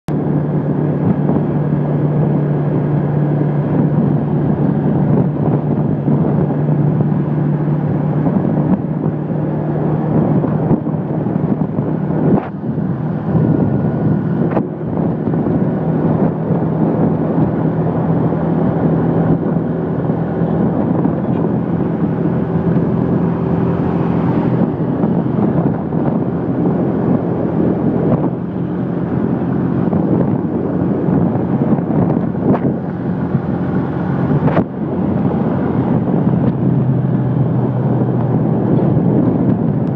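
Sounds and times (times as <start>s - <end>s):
motorcycle engine cruising: 0.1s - 39.9s
wind buffeting microphone: 0.1s - 39.9s.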